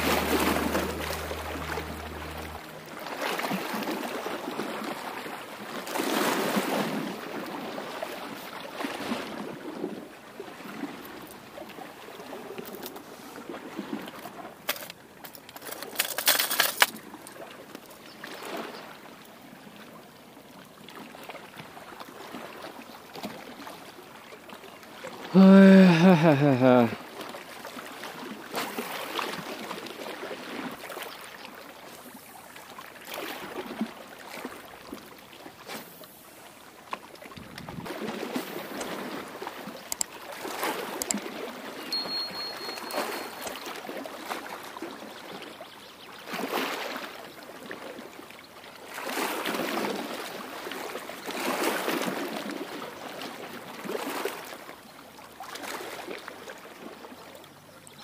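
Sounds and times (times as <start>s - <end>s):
small waves lapping against rocks: 1.9s - 25.4s, 26.2s - 41.9s, 42.6s - 58.0s.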